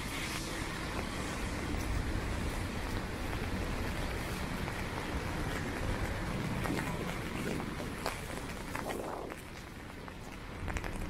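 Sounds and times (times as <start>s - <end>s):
low rumble of engines: 0.0s - 11.0s
tyres on wet road: 0.0s - 11.0s.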